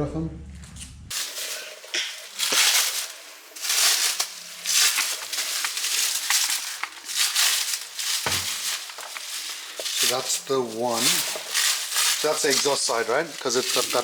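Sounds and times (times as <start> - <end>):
plastic packaging crinkling: 1.1 - 14.0.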